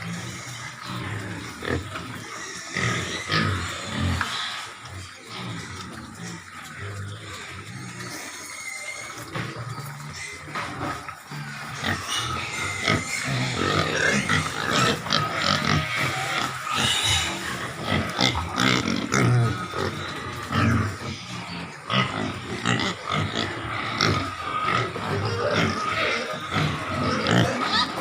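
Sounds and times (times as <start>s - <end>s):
piglets grunting and calling: 0.0s - 28.0s.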